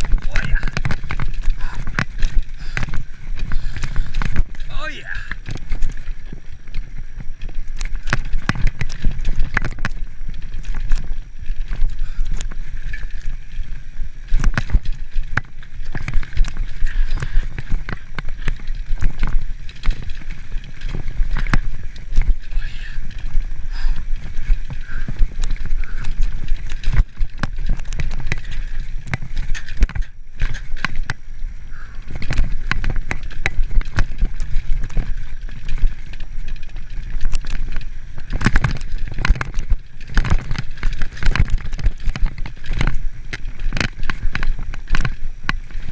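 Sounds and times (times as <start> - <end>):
bike knocks and rattles: 0.0 - 45.9
bike tyres on dirt and rocks: 0.0 - 45.9
steady low rumble: 0.0 - 45.9.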